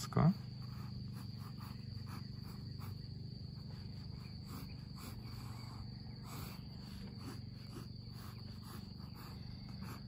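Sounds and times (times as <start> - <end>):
pencil scratching on paper: 0.3 - 10.0.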